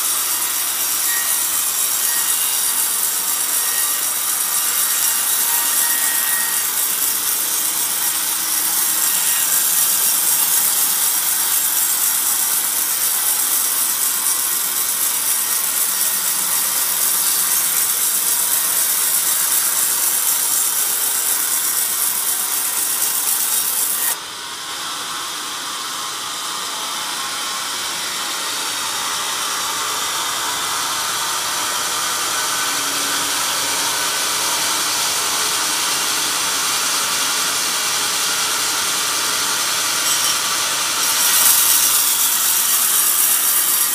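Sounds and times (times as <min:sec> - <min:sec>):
band saw cutting log: 0:00.0 - 0:24.2, 0:25.7 - 0:43.9.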